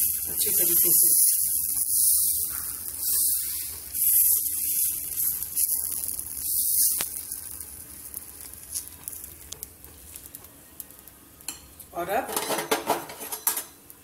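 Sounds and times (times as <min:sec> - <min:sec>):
batter sizzling on hot pan: 0:00.0 - 0:14.0.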